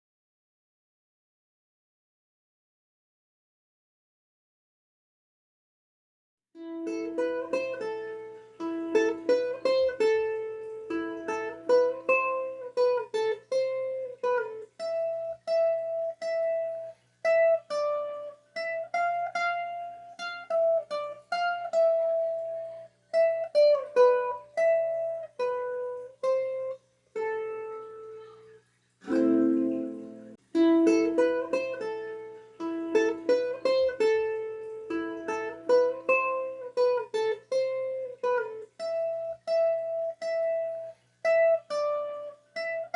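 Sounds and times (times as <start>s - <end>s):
plucked string melody: 6.6s - 42.9s.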